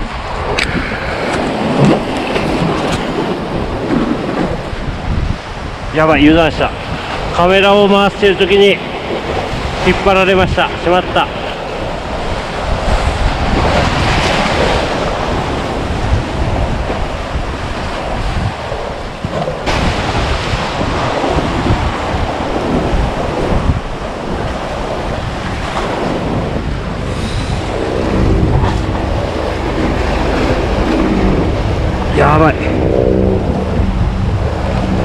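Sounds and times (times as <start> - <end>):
sea waves washing through blocks: 0.0 - 35.0
wind buffeting microphone: 0.0 - 35.0.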